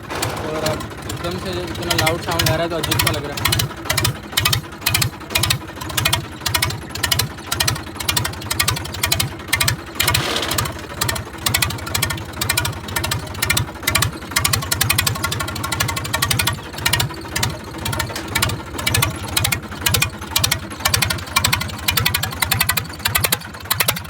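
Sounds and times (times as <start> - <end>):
diesel tractor engine open exhaust: 0.0 - 24.0.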